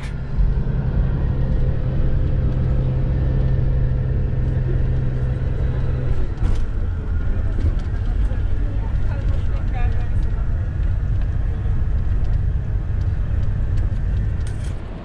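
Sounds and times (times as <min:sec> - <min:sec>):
bus engine humming: 0:00.0 - 0:15.0
road rumble: 0:00.0 - 0:15.0.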